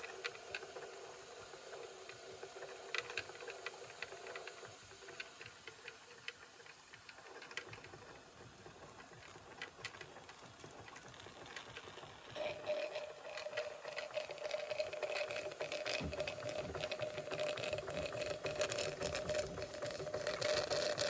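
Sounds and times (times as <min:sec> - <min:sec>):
faint steam hiss: 0:00.0 - 0:21.0
model steam engine running: 0:00.0 - 0:21.0.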